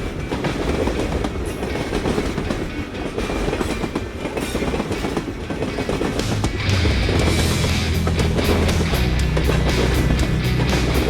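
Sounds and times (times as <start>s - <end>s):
train rumbling on track: 0.0s - 11.0s
wheels rattling: 0.0s - 11.0s.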